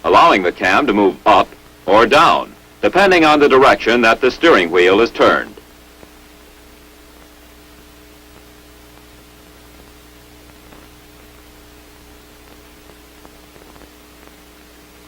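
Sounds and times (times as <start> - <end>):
low electrical hum: 0.0 - 15.0
steady hiss: 0.0 - 15.0.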